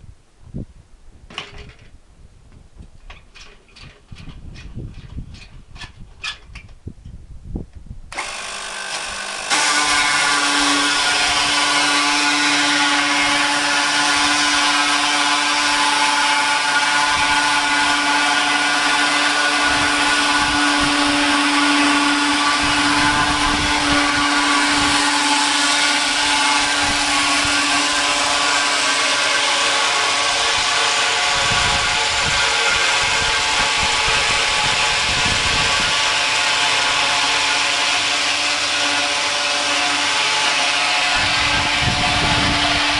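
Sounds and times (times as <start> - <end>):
chain sawmill running with whine: 8.1 - 42.9.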